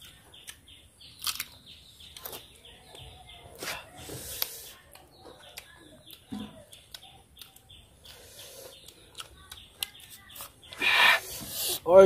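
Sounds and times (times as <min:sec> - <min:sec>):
crunchy chewing: 0:00.0 - 0:11.8
faint bird chirps: 0:00.0 - 0:12.0.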